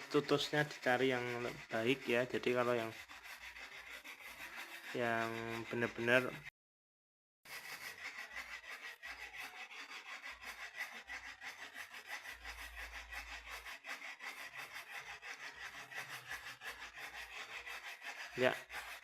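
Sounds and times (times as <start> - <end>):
scratchy rubbing of leaves: 0.0 - 6.5, 7.5 - 19.0.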